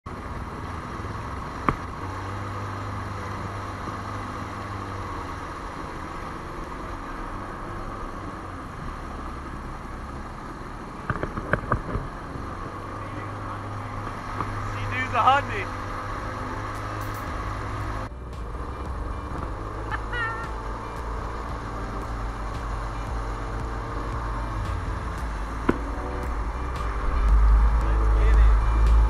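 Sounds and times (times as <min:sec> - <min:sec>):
watercraft engines running: 0:00.1 - 0:29.0.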